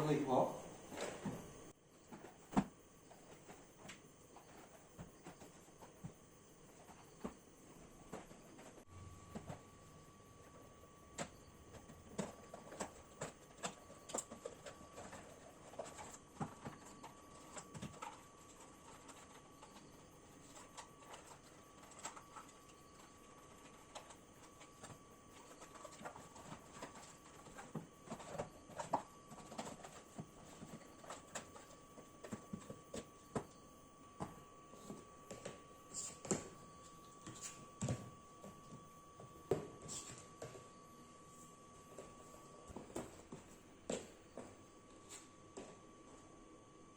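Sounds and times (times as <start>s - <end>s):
faint high whine: 0.0s - 46.9s.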